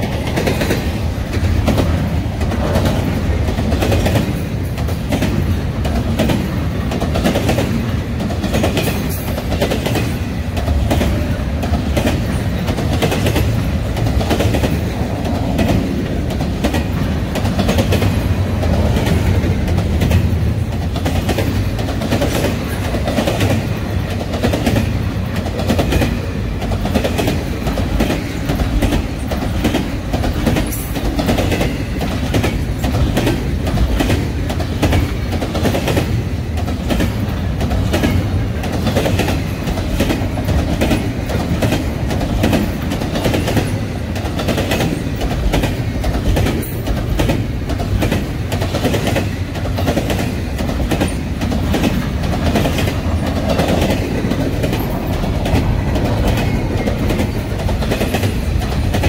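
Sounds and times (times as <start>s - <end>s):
freight train wheels rumbling: 0.0s - 59.0s
wheels clickety-clack on rail: 0.0s - 59.0s.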